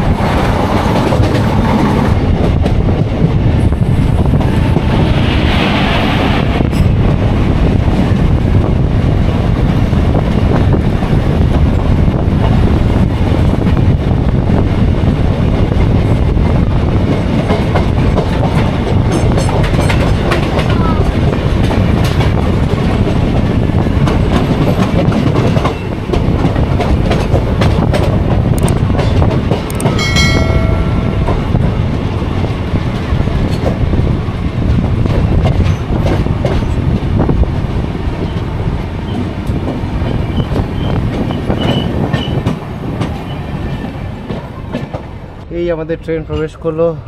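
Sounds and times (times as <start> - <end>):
clickety-clack over rail joints: 0.0 - 46.8
rumble of train wheels on rail: 0.0 - 47.0.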